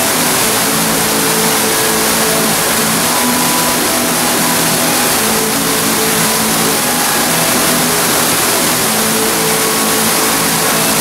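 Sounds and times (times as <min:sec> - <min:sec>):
faint steady tones: 0:00.0 - 0:11.0
waterfall splashing into a pool: 0:00.0 - 0:11.0.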